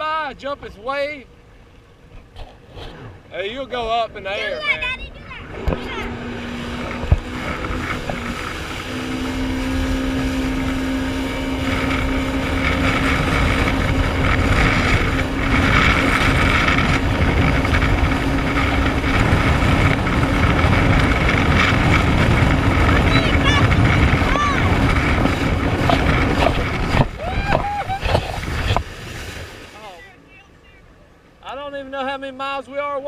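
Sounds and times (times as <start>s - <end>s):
jet ski engine running: 0.0s - 33.0s
wind rushing over microphone: 2.7s - 29.9s.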